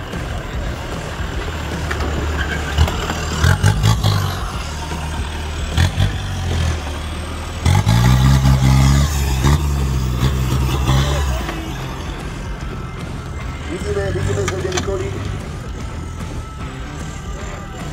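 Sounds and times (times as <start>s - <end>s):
off-road vehicle engine revving: 0.0s - 17.9s.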